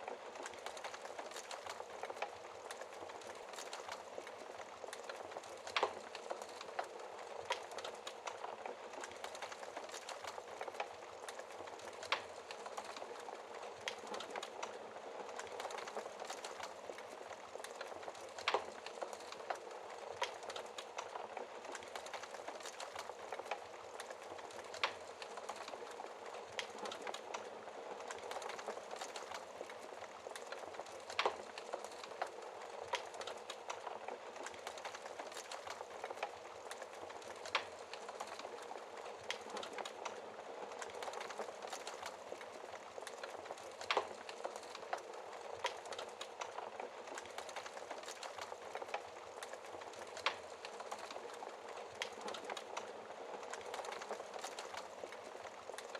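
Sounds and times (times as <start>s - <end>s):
fire popping: 0.1s - 55.9s.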